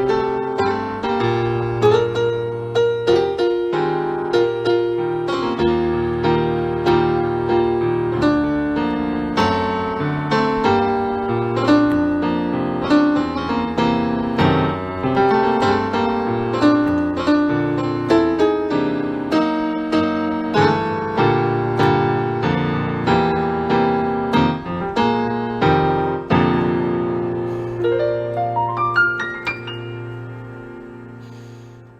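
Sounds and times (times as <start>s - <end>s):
slow piano piece: 0.0s - 31.9s.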